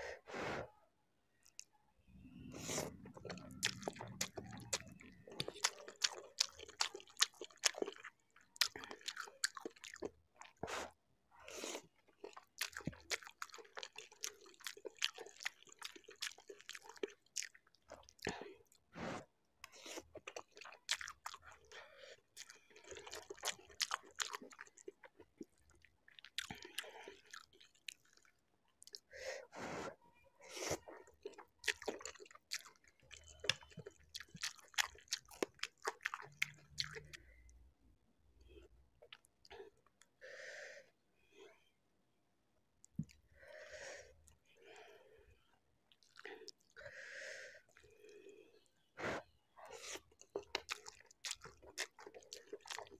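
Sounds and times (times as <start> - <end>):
chewing and crunching noodles: 1.3 - 29.1, 29.7 - 37.6, 38.4 - 40.2, 45.5 - 52.9.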